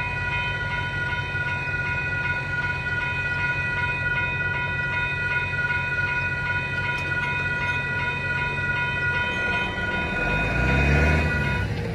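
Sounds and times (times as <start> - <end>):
crossing warning bell ringing: 0.0 - 11.9
freight train low rumble: 0.0 - 11.9.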